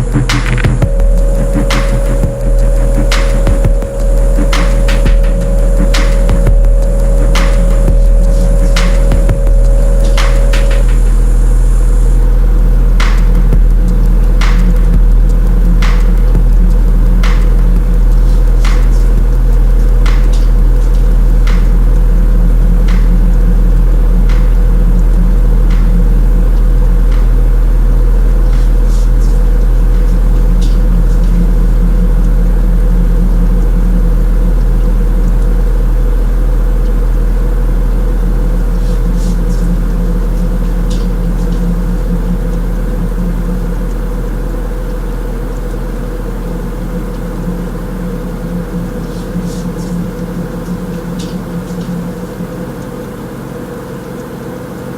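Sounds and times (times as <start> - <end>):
electronic drone music: 0.0 - 52.6.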